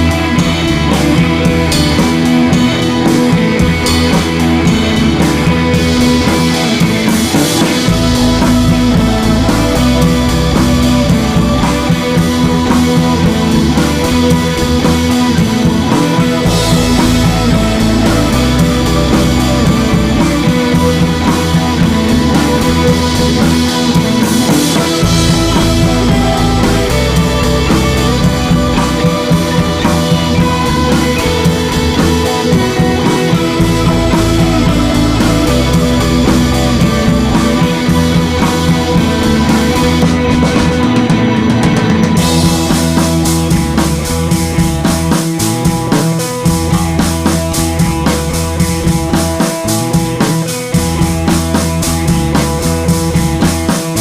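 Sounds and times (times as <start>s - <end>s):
rock music with guitar and drums: 0.0s - 54.0s.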